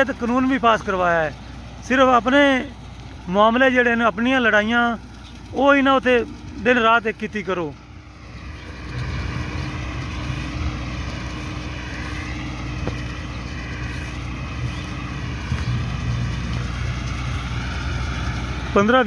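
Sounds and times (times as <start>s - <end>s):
tractor diesel engine drone: 0.0s - 19.0s.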